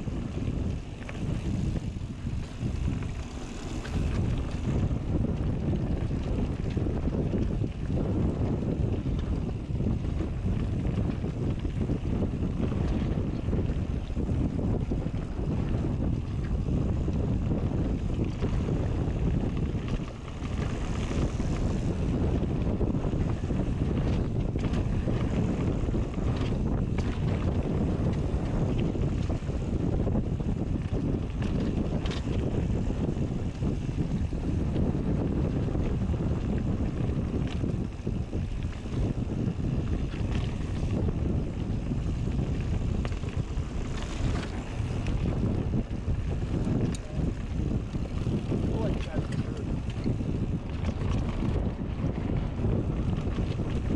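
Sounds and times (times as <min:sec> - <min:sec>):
bike tyres rolling on dirt: 0:00.0 - 0:53.9
wind buffeting microphone: 0:00.0 - 0:53.9.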